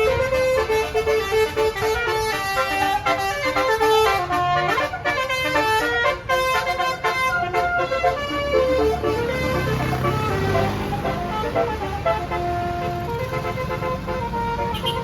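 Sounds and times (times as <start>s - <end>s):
musical air horn melody: 0.0s - 15.0s.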